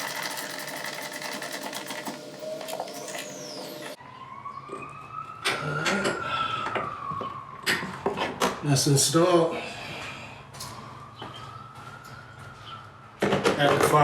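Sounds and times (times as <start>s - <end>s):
siren wailing: 2.0s - 13.6s.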